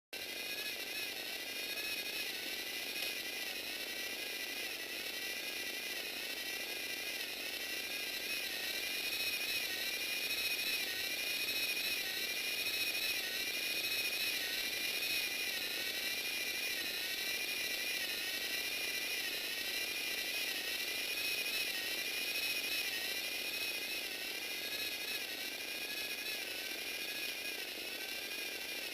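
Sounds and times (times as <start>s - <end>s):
plastic gears whining: 0.2s - 28.9s.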